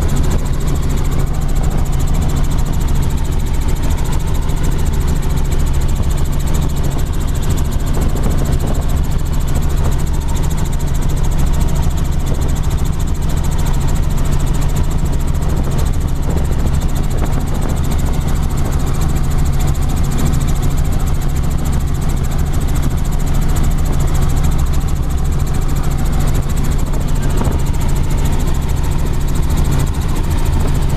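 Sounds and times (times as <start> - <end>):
helicopter engine and rotor drone: 0.0 - 30.9.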